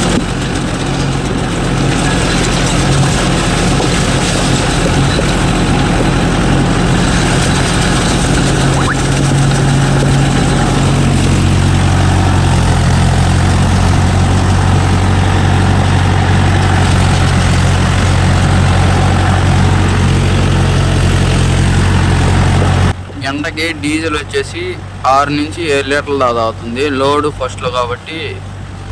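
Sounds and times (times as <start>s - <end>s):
tractor diesel engine under load: 0.0s - 28.9s.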